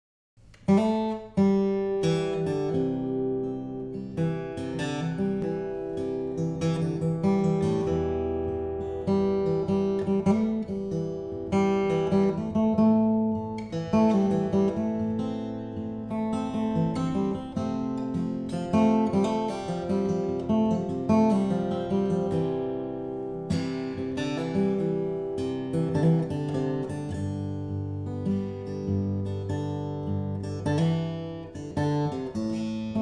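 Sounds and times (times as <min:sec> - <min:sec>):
solo acoustic guitar: 0:00.4 - 0:33.0.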